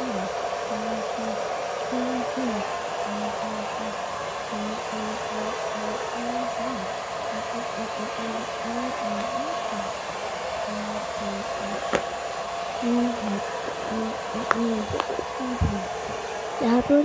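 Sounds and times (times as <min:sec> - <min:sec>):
person humming a tune: 0:00.0 - 0:09.9, 0:10.7 - 0:11.9, 0:12.8 - 0:15.9
motor-driven blower whirring: 0:00.0 - 0:17.0.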